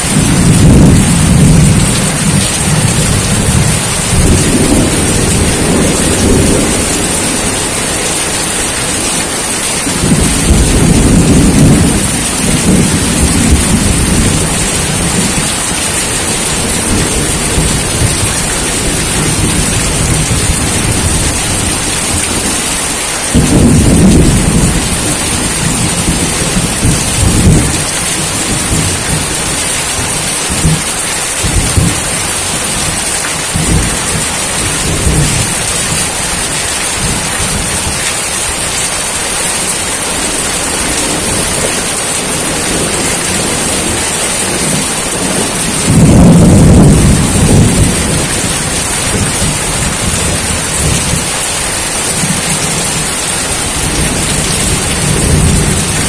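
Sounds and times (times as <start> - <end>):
heavy rain hissing: 0.0 - 56.0
thunder rumbling: 0.0 - 56.0.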